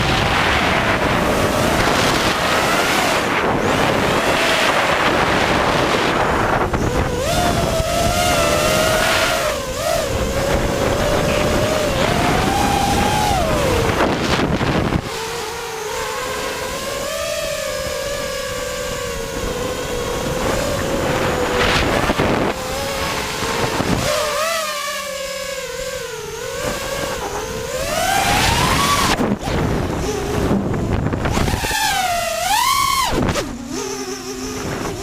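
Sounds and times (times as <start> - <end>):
small engine revving: 0.0 - 35.0
wind buffeting microphone: 0.0 - 35.0.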